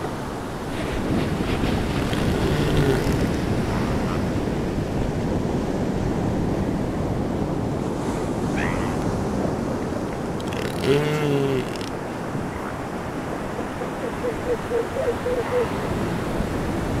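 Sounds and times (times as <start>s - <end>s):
surf rumble: 0.0s - 17.0s
wind buffeting microphone: 0.0s - 17.0s.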